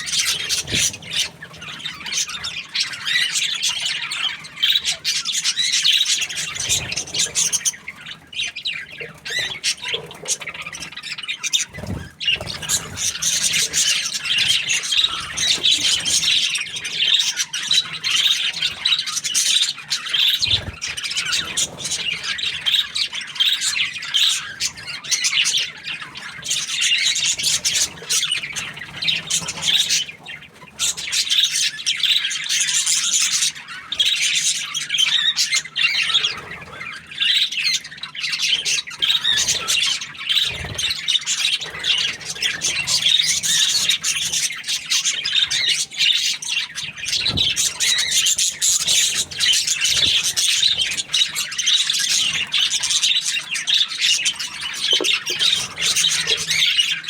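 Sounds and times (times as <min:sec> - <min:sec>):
budgerigar chirping and chattering: 0:00.0 - 0:57.0.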